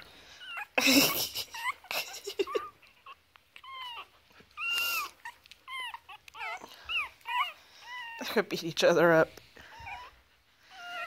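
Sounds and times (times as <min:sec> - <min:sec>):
puppies squeaking and whining: 0:00.0 - 0:11.0.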